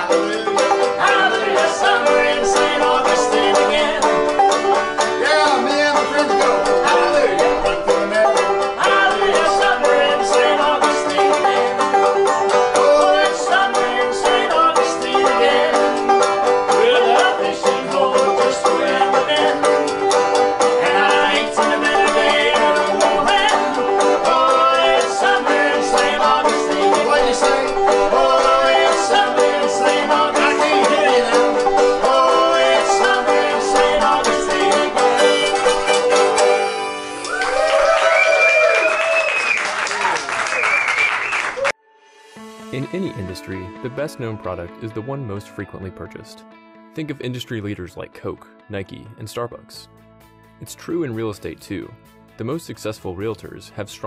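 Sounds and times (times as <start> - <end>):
banjo picking: 0.0 - 37.4, 42.6 - 46.4, 47.0 - 54.0
acoustic folk string music: 0.0 - 38.0, 42.4 - 54.0.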